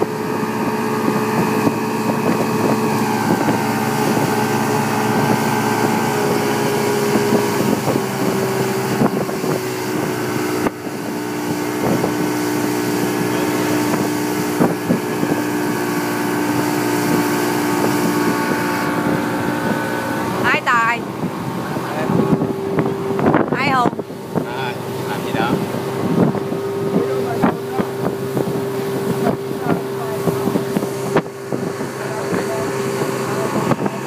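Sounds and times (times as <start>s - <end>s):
motorboat engine running: 0.0s - 34.0s
wind on microphone: 0.0s - 34.0s.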